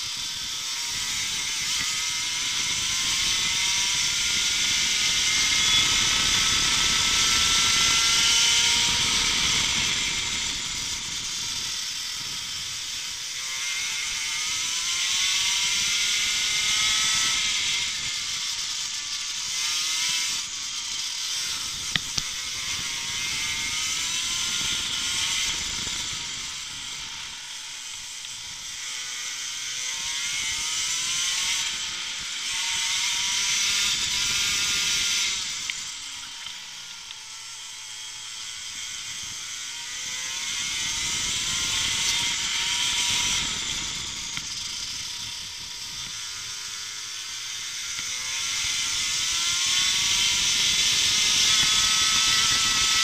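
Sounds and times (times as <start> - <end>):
racing kart engine: 0.0 - 53.0.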